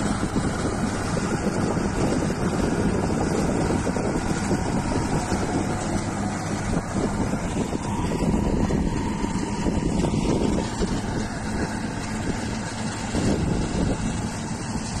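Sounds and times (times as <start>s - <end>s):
combine harvester engine drone: 0.0s - 15.0s
wind buffeting microphone: 0.0s - 15.0s.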